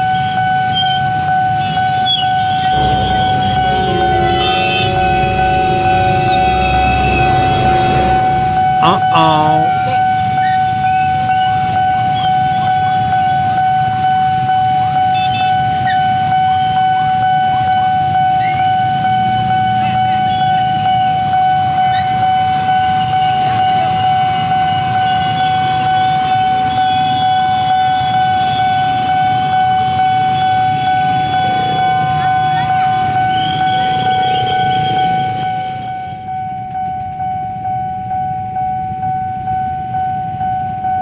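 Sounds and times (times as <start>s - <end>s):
level crossing warning alarm: 0.0s - 9.8s, 12.0s - 41.0s.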